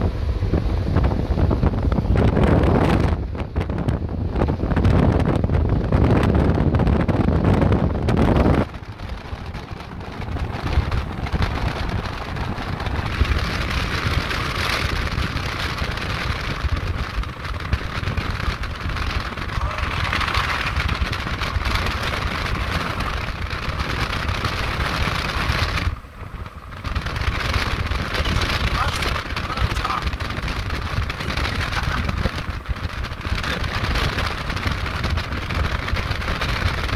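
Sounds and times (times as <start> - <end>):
road and vehicle rumble: 0.0 - 36.9
wind buffeting the microphone: 0.0 - 36.9.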